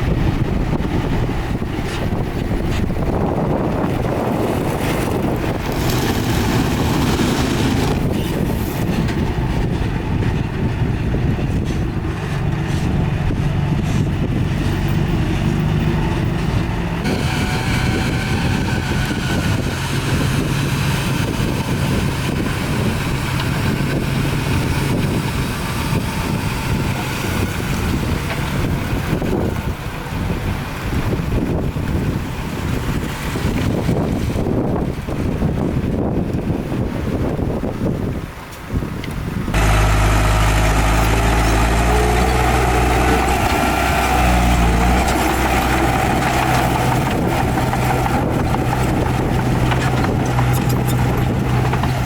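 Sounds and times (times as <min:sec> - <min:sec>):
diesel engine droning: 0:00.0 - 0:38.2, 0:39.1 - 0:52.0.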